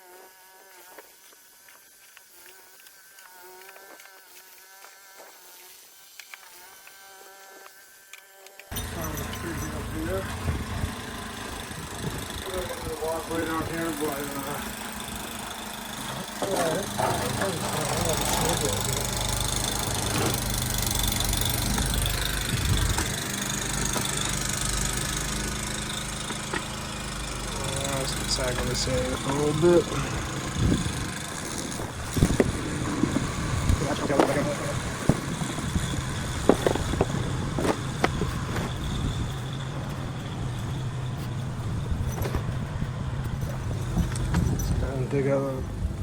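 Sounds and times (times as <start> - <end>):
engine idling: 8.7 - 46.0.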